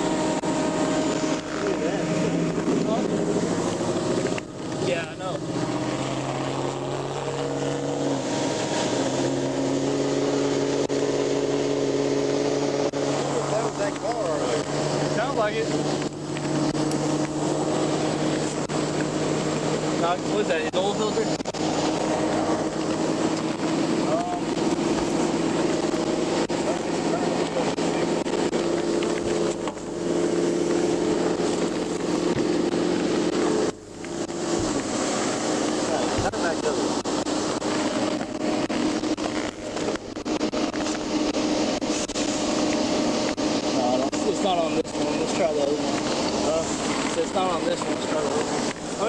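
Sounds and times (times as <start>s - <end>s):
car engine humming: 0.0s - 49.0s.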